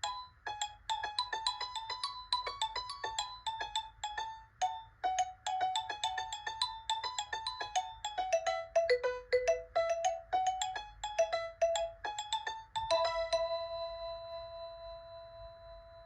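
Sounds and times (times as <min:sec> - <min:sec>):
mobile phone ringtone melody: 0:00.0 - 0:16.0.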